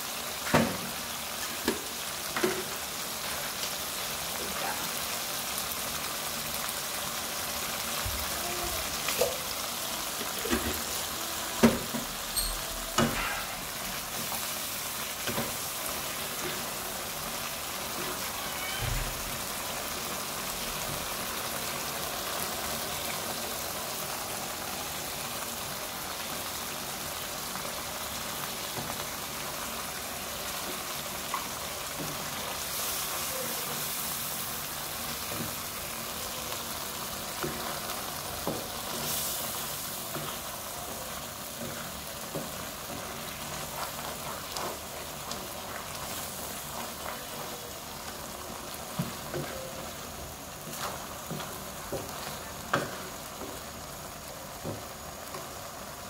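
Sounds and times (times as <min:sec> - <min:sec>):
sauce sizzling in a frying pan: 0:00.0 - 0:56.0.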